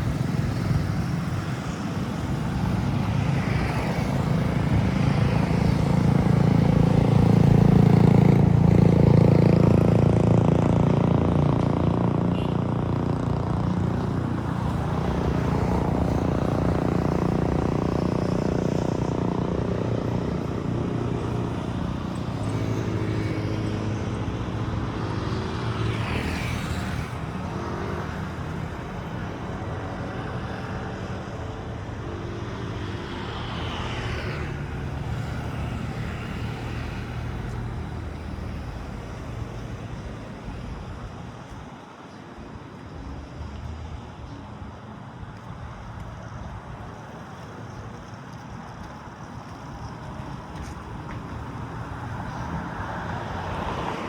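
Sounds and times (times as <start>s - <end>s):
vehicle engine humming: 0.0s - 41.8s, 42.7s - 54.0s.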